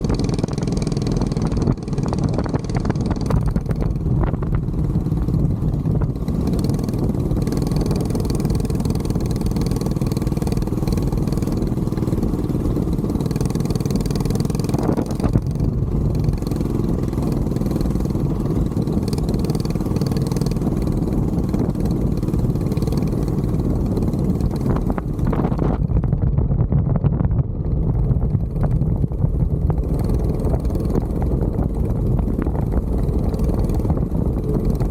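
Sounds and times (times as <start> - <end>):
mini bike engine running: 0.0 - 34.9.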